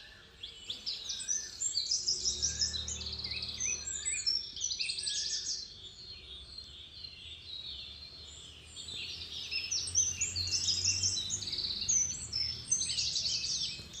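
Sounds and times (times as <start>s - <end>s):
small birds chirping and trilling: 0.0s - 14.0s.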